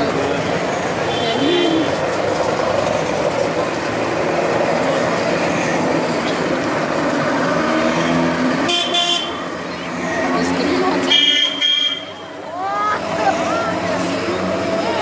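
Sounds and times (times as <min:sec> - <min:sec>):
small cars driving over cobblestones: 0:00.0 - 0:15.0.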